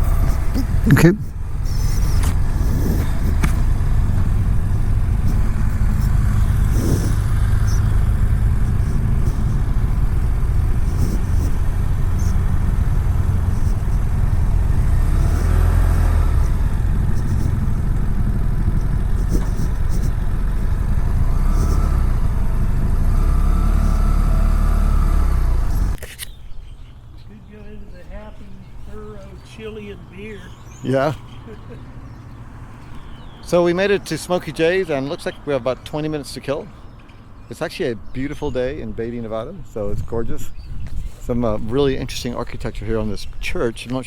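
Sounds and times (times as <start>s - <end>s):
motorcycle engine rumbling: 0.0s - 44.0s.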